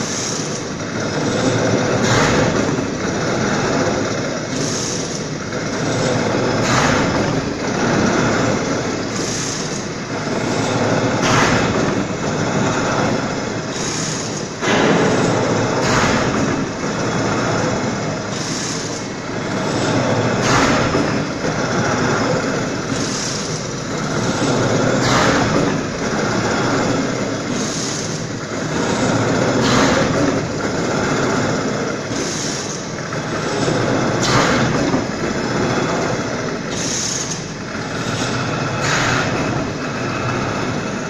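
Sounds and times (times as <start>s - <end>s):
veneer slicing machine running: 0.0s - 41.0s.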